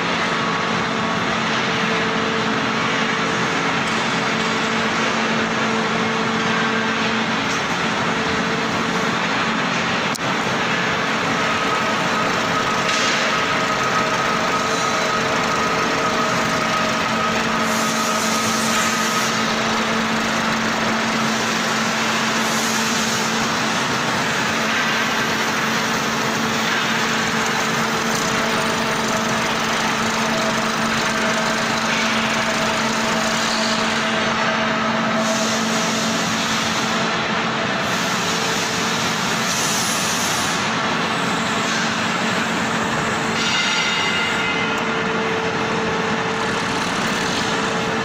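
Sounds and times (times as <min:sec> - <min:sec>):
electric motor and hydraulic pump hum: 0:00.0 - 0:48.0.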